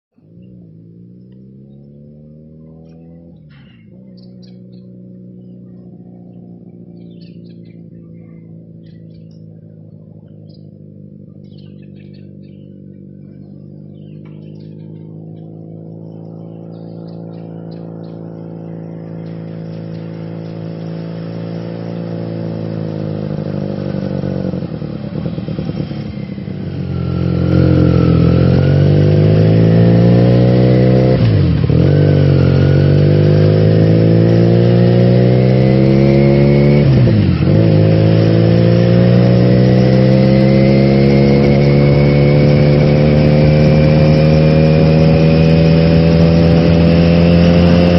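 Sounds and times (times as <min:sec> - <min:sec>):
vehicle engine accelerating: 0:00.1 - 0:47.9.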